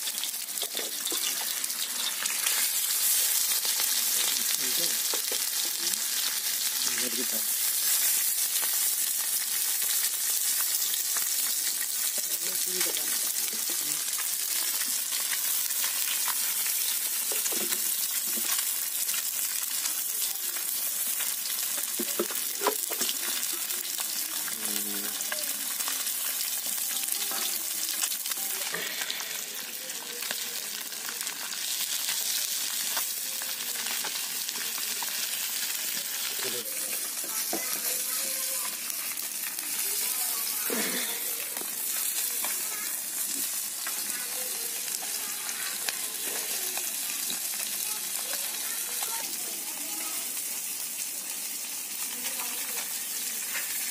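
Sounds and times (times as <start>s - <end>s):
hot oil sizzling: 0.0s - 53.9s.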